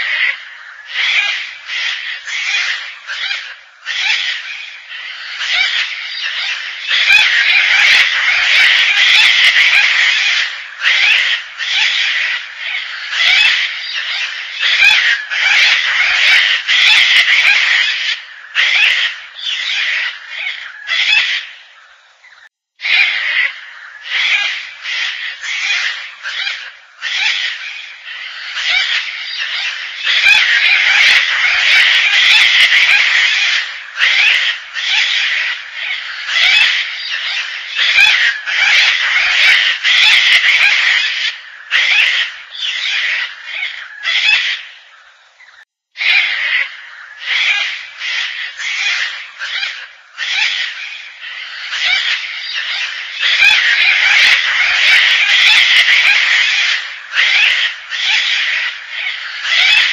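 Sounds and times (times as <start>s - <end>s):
cockatoo calling: 0.0s - 59.9s.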